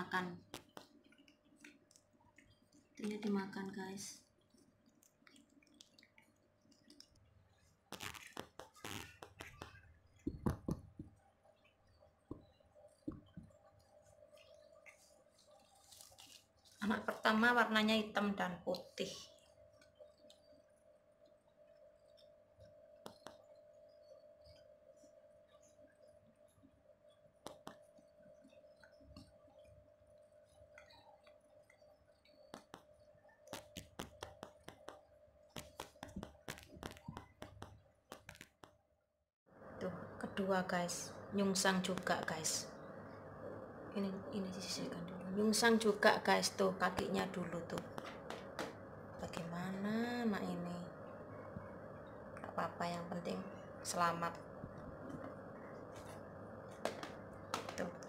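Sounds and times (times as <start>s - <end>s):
faint steady hum: 0.0s - 38.4s, 39.5s - 58.0s.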